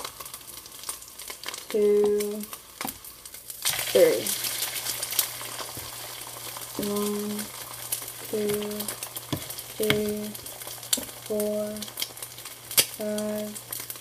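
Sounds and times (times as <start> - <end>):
eggs sizzling in a pan: 0.0 - 14.0
fat spattering crackles: 0.0 - 14.0.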